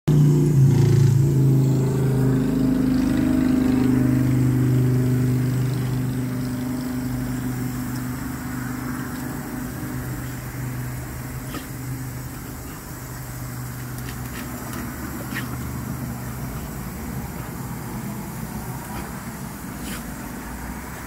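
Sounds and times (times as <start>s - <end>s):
engine humming: 0.1s - 21.0s.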